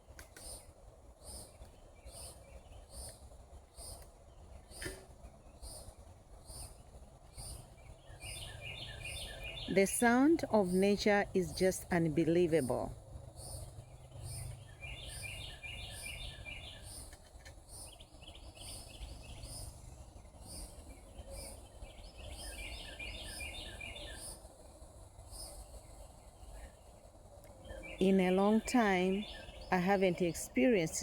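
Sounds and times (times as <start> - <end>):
insects pulsing chirp: 0.4 - 11.2, 12.6 - 29.9.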